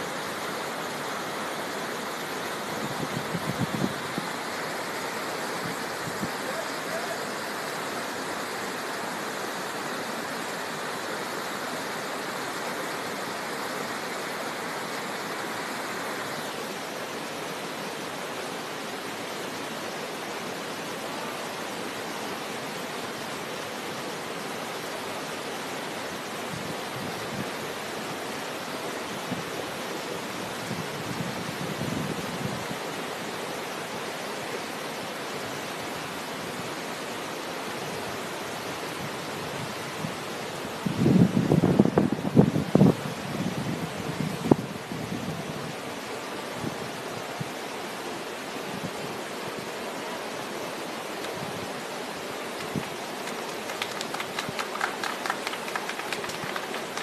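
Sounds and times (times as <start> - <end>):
river rapids rushing over rocks: 0.0 - 57.0.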